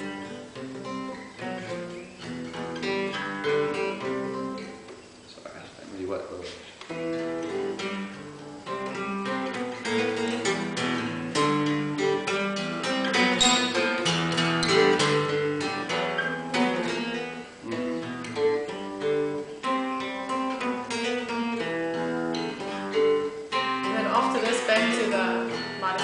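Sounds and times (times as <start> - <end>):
acoustic guitar plucking and strumming: 0.0 - 5.3, 6.3 - 26.0.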